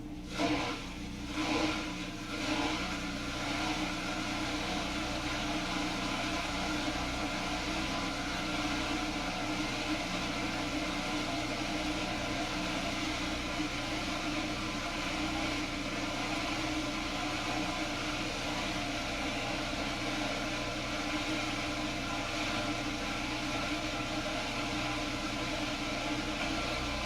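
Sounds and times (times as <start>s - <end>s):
dishwasher humming and hissing: 0.0s - 27.0s.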